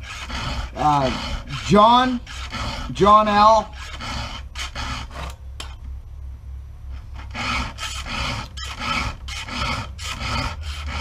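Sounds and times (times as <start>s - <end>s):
file rasping on chainsaw chain: 0.0s - 5.4s, 7.0s - 11.0s.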